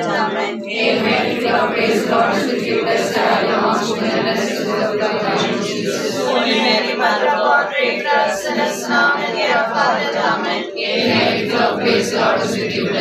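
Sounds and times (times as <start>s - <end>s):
group singing a hymn unaccompanied: 0.0s - 13.0s.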